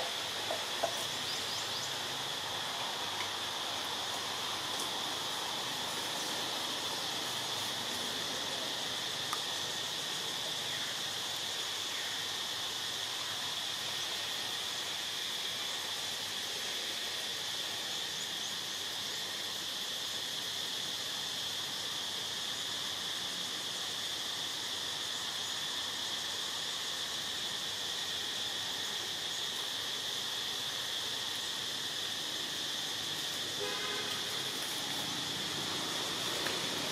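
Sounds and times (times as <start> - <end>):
forest ambience hiss: 0.0 - 36.9
high-pitched insect drone: 0.0 - 36.9.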